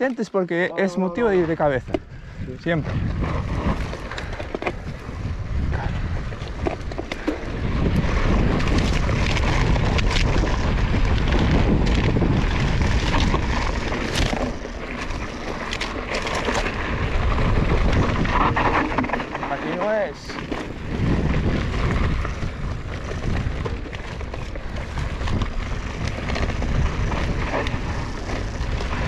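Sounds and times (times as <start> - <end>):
wind buffeting microphone: 1.0 - 29.0
bike rattling over rocks: 1.2 - 29.0.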